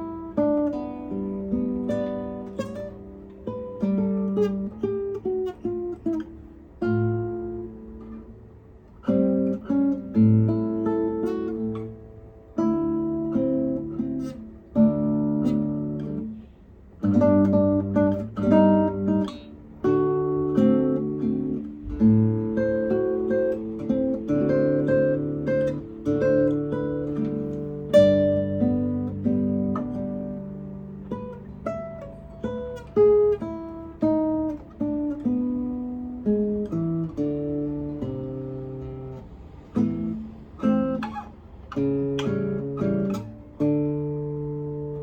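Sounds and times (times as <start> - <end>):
fingerpicked acoustic guitar: 0.0 - 45.0.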